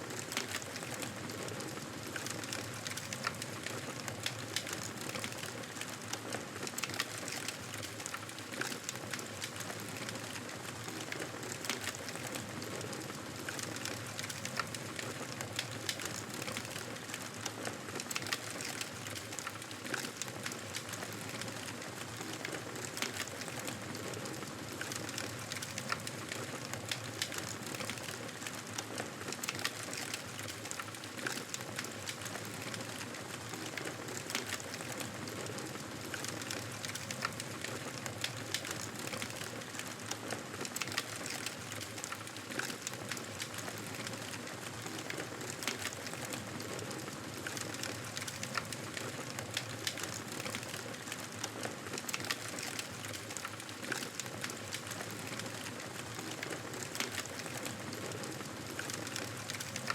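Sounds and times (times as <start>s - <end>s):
campfire crackling and popping: 0.1s - 59.9s.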